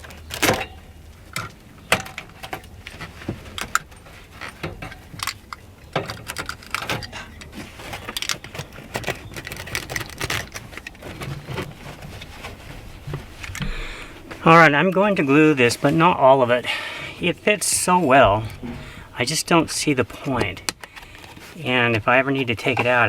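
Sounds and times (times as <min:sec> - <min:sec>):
carpet rustling and scraping: 0:00.0 - 0:23.0.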